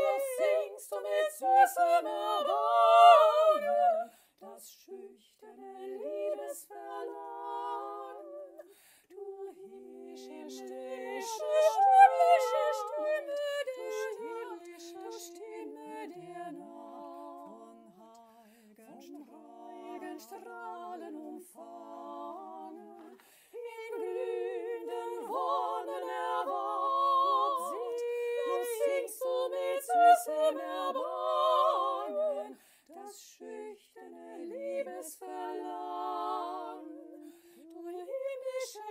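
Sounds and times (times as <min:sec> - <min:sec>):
woman singing layered harmonies: 0:00.0 - 0:38.9.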